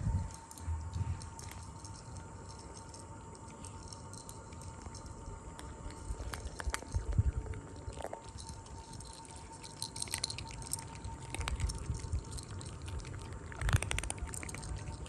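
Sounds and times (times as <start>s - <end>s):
faint high hum: 0.0s - 15.0s
kittens chewing and smacking: 0.0s - 15.0s.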